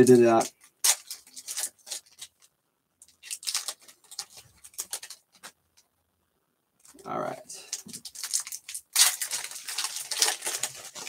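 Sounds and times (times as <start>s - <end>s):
foil wrappers crinkling: 0.0s - 5.5s, 7.6s - 11.0s.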